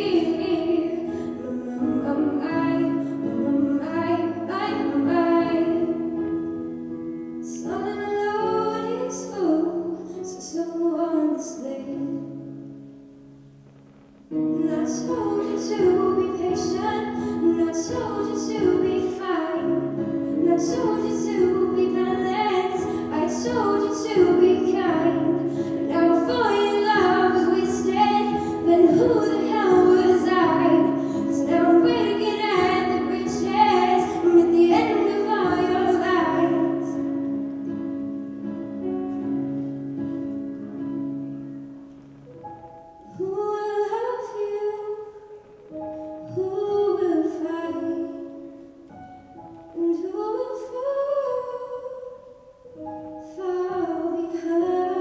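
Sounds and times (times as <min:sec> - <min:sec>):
young woman singing into a microphone: 0:00.0 - 0:06.3, 0:07.4 - 0:12.5, 0:14.5 - 0:37.1, 0:43.1 - 0:48.7, 0:49.7 - 0:52.5, 0:53.2 - 0:55.0.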